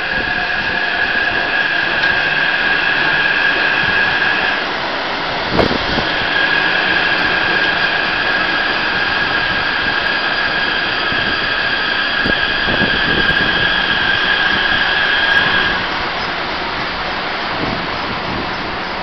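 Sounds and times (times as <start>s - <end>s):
electric train rail noise: 0.0s - 19.0s
train high whine: 0.0s - 19.0s.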